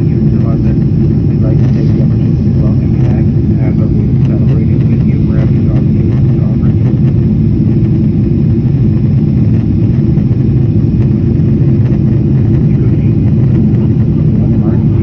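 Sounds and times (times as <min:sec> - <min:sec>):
loud steady low rumble: 0:00.0 - 0:15.0.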